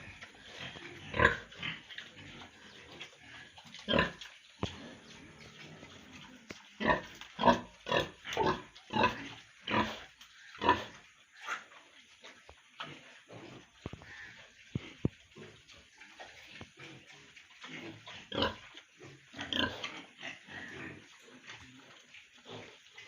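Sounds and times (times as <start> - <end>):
pigs calling: 0.0 - 23.0.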